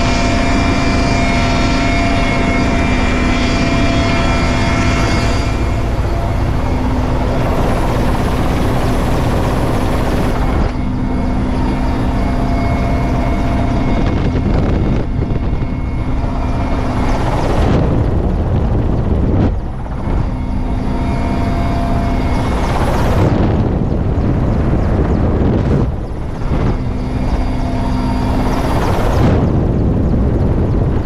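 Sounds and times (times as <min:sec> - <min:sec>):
helicopter engines and rotor: 0:00.0 - 0:31.0
low steady hum: 0:00.0 - 0:31.0.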